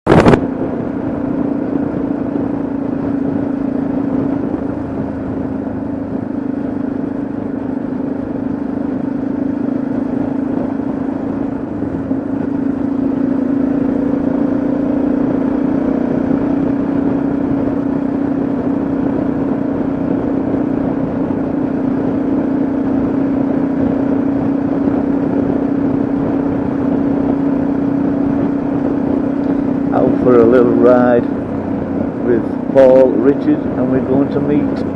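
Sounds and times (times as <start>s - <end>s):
constant rushing noise: 0.0s - 34.9s
motorcycle engine cruising: 0.0s - 34.9s.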